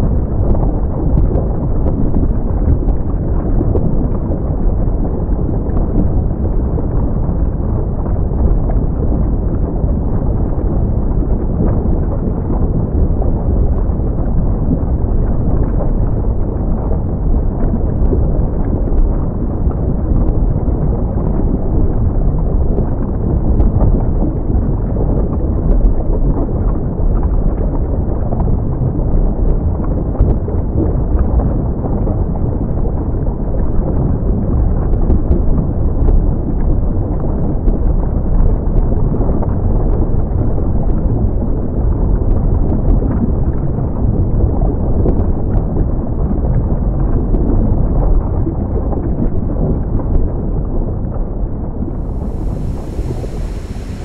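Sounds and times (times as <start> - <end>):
deep volcanic rumble: 0.0 - 54.0.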